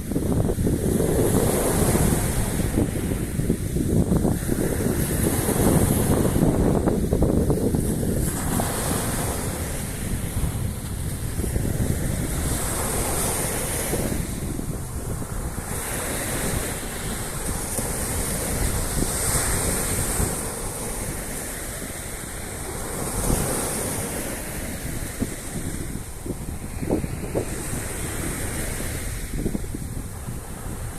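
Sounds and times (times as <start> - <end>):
sea waves washing onto beach: 0.0 - 30.9
wind buffeting microphone: 0.0 - 30.9.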